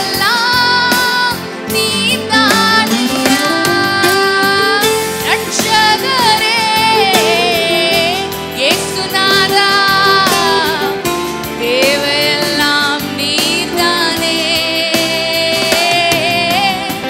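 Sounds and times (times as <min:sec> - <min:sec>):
instrumental backing: 0:00.0 - 0:17.0
woman singing into a microphone: 0:00.0 - 0:17.0.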